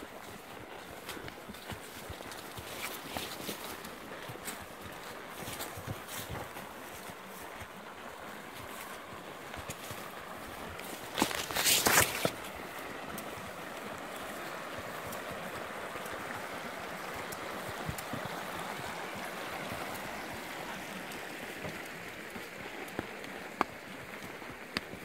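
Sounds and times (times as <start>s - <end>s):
creek running over stones: 0.0s - 25.0s.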